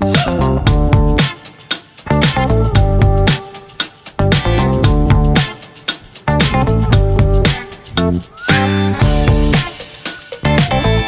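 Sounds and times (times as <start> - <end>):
funky guitar and bass music: 0.0 - 11.0.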